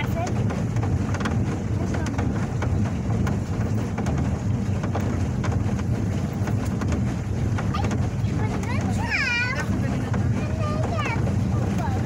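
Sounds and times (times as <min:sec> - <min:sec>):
boat engine rumble: 0:00.0 - 0:12.0
wind buffeting microphone: 0:00.0 - 0:12.0.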